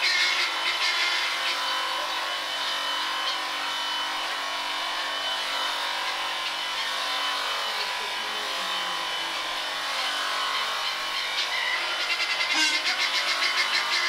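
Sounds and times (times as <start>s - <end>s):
electric shearing handpiece buzzing: 0.0s - 14.0s.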